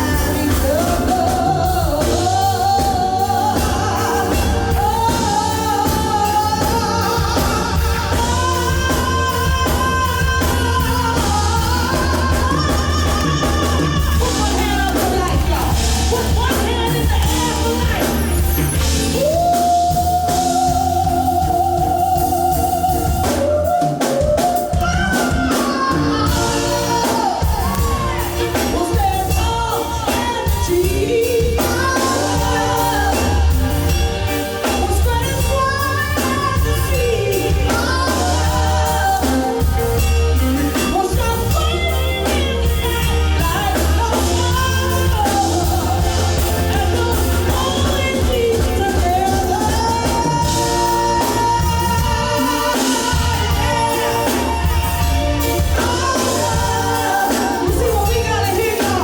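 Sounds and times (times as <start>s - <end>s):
live band with heavy bass: 0.0s - 59.0s
person singing: 0.0s - 59.0s.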